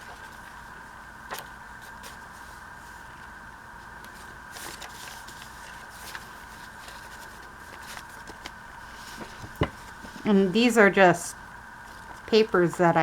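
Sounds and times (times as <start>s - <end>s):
paper rustling and folding: 0.0s - 10.3s, 11.8s - 12.7s
background hum: 0.0s - 13.0s.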